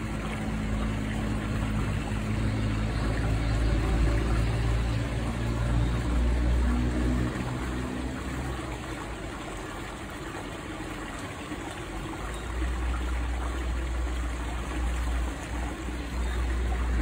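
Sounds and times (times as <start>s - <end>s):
trickle of running water: 0.0s - 17.0s.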